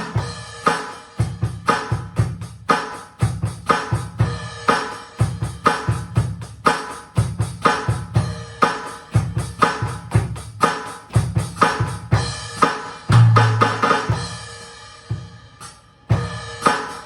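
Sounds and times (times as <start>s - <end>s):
drum kit playing rock beat: 0.0s - 17.0s.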